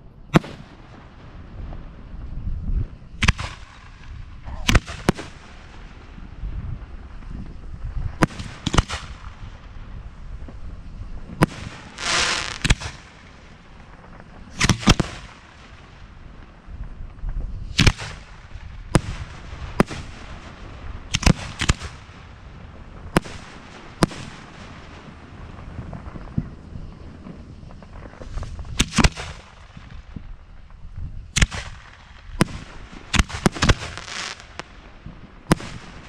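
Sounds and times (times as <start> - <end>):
fireworks crackling hiss: 0.0 - 36.0
fireworks bangs: 0.3 - 2.2, 2.8 - 36.0.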